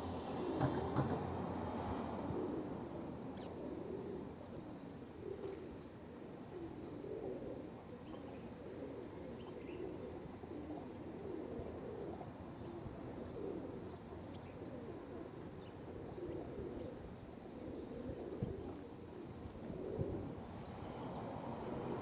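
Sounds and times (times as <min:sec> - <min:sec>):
faint steady high hiss: 0:00.0 - 0:22.0
pigeons cooing: 0:00.0 - 0:22.0.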